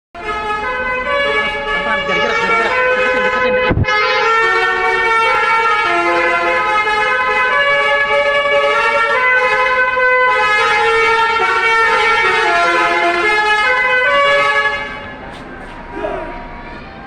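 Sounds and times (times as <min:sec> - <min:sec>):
musical bus horn playing a tune: 0:00.2 - 0:17.0.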